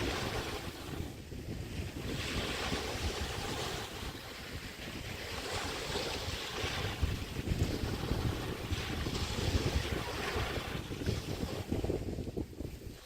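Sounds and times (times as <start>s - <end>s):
waves breaking on a beach: 0.0s - 13.0s
wind buffeting the microphone: 0.0s - 13.0s.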